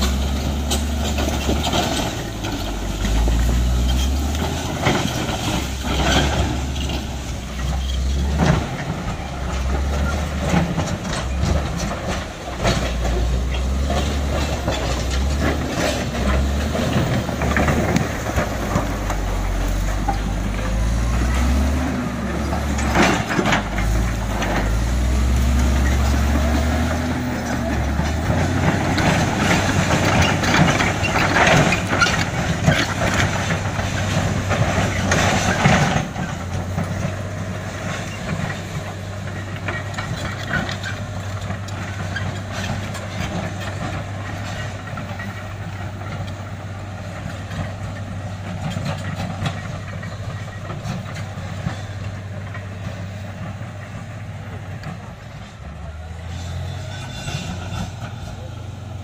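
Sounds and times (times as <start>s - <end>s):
tracks and blade clanking on rock: 0.0s - 58.6s
bulldozer diesel engine: 0.0s - 59.0s.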